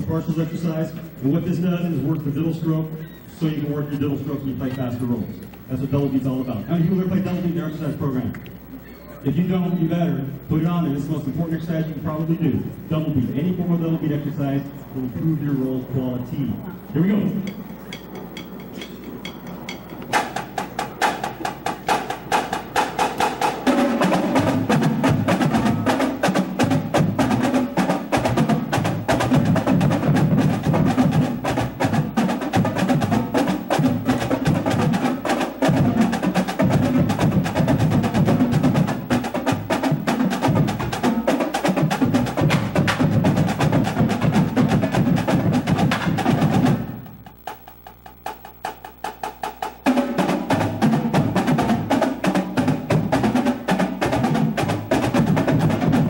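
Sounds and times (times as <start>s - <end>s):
marching snares and tenor drums: 0.0s - 56.0s.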